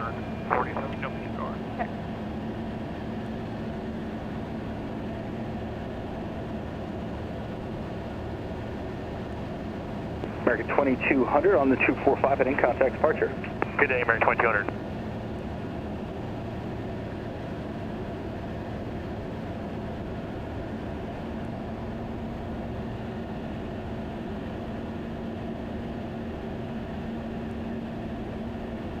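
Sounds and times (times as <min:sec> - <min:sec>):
faint steady hum: 0:00.0 - 0:24.4
light aircraft engine drone: 0:00.0 - 0:29.0.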